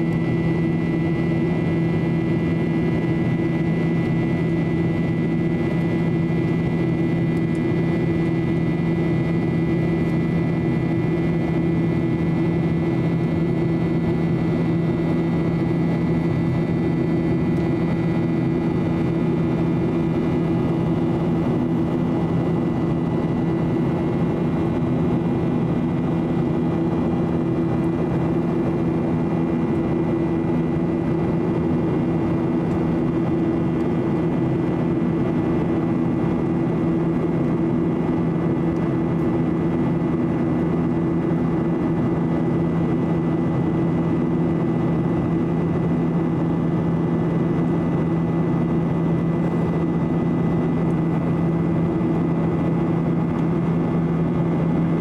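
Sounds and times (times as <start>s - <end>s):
airplane cabin drone: 0.0s - 55.0s
faint high engine whine: 0.0s - 55.0s.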